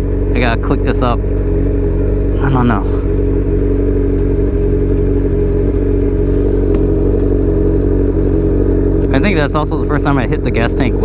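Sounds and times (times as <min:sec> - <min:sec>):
loud motorcycle engine running: 0:00.0 - 0:11.0.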